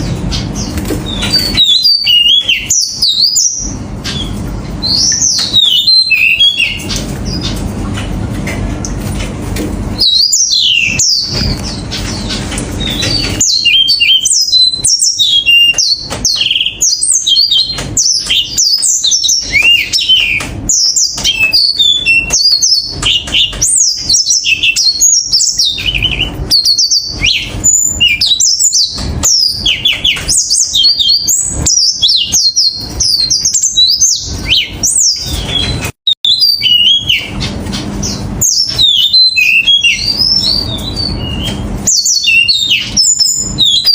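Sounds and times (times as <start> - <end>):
finch singing: 0.0 - 7.9, 9.9 - 43.9.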